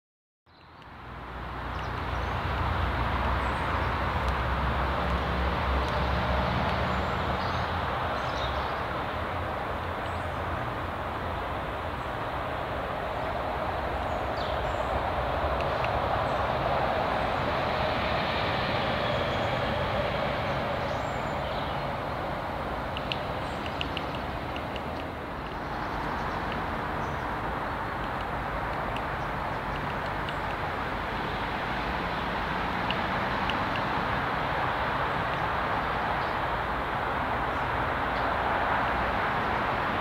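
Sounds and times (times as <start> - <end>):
distant traffic rumble: 0.5 - 40.0.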